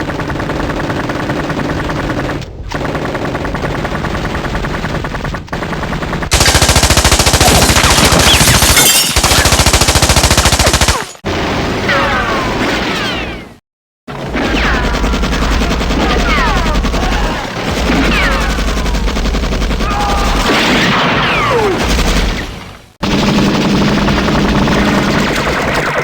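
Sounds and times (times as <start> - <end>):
rapid machine-gun fire: 0.0 - 11.9, 14.1 - 26.0.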